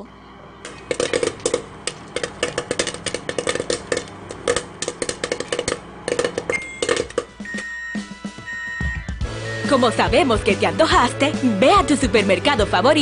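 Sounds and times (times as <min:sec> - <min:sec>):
popcorn popping: 0:00.6 - 0:13.0.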